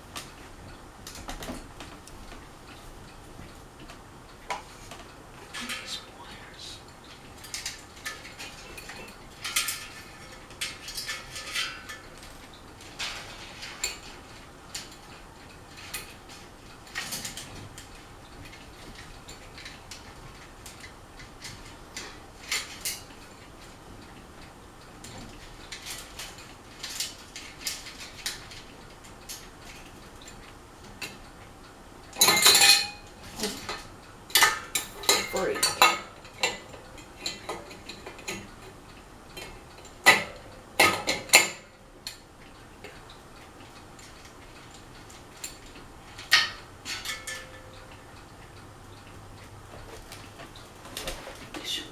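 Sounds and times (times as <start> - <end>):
ceiling fan metallic clinks: 0.0 - 51.9
faint steady background hum: 0.0 - 51.9.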